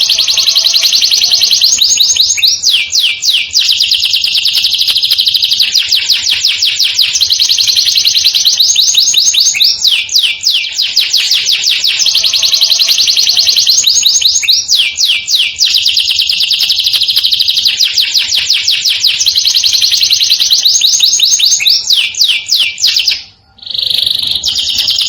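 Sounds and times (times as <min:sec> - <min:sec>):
canary singing in rolling trills: 0:00.0 - 0:25.0.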